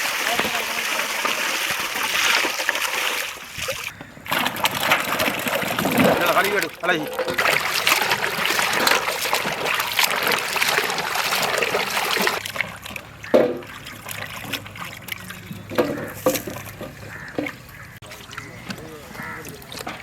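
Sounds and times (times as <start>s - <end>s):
water pouring and splashing: 0.0s - 20.0s.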